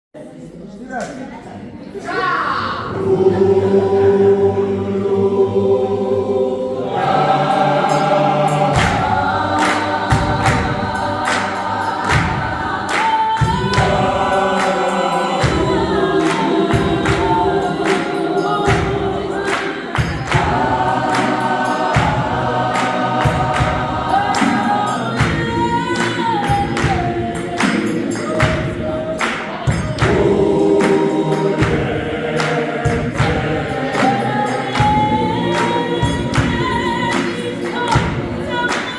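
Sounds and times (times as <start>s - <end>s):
gospel choir singing: 1.5s - 38.9s
steady percussive beat: 3.0s - 38.9s.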